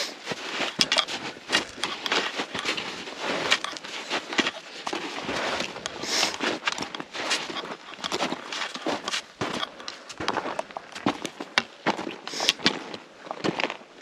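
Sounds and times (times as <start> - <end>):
footsteps on trail: 0.0 - 14.0.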